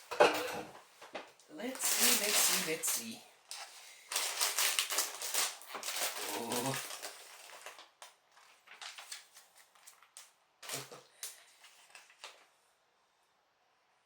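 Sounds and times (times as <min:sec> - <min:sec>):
plastic parts clicking and rustling: 0:01.1 - 0:12.4.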